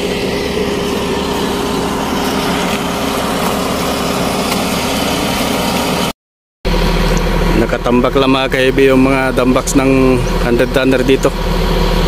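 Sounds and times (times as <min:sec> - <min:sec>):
vehicle engine running: 0:00.0 - 0:06.1, 0:06.7 - 0:12.0.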